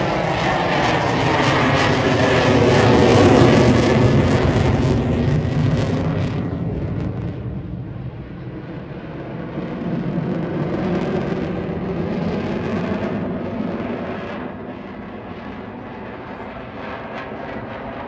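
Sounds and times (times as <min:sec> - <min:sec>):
military aircraft engine roar: 0:00.0 - 0:18.0.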